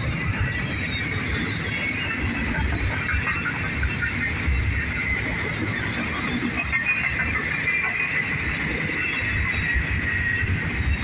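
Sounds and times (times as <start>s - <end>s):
steel wheels squealing: 0.0s - 11.0s
train cars rumbling and clattering: 0.0s - 11.0s.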